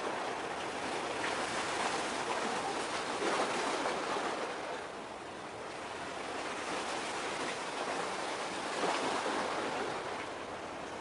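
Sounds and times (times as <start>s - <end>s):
sea water washing on shore: 0.0s - 11.0s.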